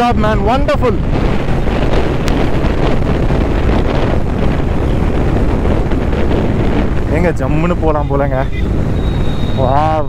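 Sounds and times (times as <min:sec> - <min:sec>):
motorcycle engine running: 0:00.0 - 0:09.8
heavy wind noise on microphone: 0:00.0 - 0:10.0.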